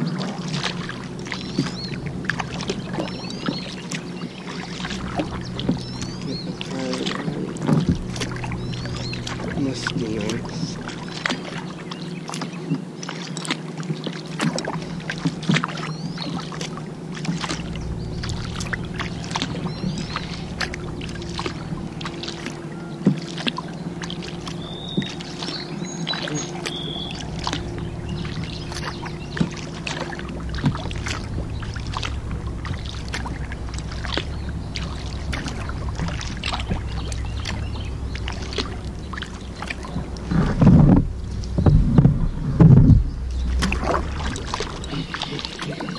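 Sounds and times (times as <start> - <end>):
water dripping: 0.0 - 41.8, 43.2 - 45.9
low steady hum: 0.0 - 45.9
paddle splashing in water: 0.0 - 45.9.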